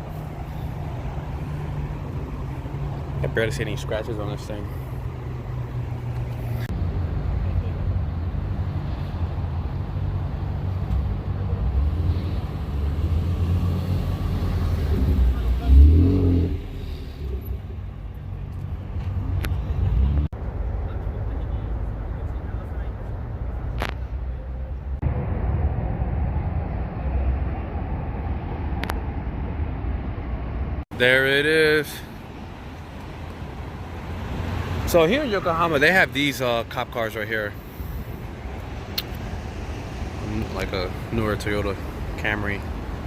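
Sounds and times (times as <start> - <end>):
car engines idling: 0.0 - 25.0, 31.0 - 43.0
low rumble of vehicles: 0.0 - 43.0.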